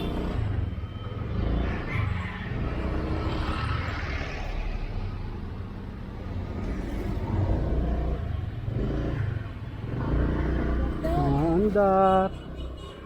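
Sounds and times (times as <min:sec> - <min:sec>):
rushing traffic noise: 0:00.0 - 0:13.0
vehicle engines rumbling: 0:00.0 - 0:13.0.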